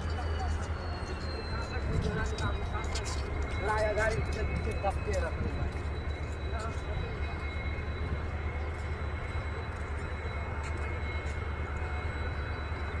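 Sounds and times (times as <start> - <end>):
diesel locomotive engine humming: 0.0 - 13.0.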